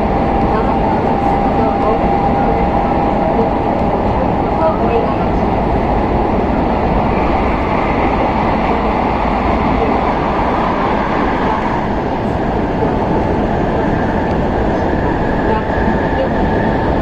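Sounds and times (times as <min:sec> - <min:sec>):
train cabin rumble: 0:00.0 - 0:17.0.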